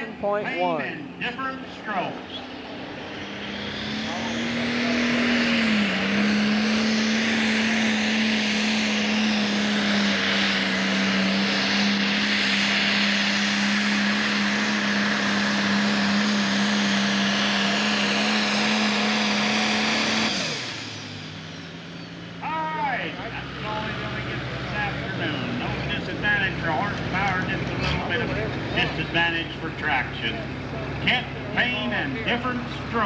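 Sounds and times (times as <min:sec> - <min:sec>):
tractor diesel engine at full throttle: 0:00.0 - 0:33.0.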